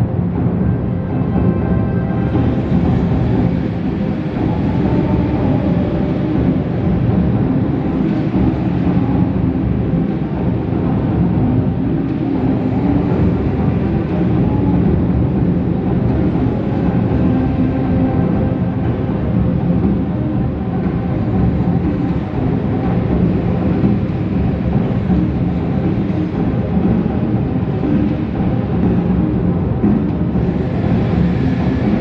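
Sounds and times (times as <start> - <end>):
loud rumbling noise: 0.0 - 32.0.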